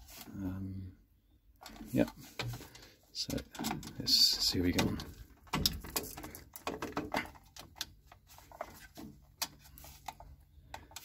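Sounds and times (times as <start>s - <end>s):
plastic clicks and knocks on metal: 1.6s - 11.0s.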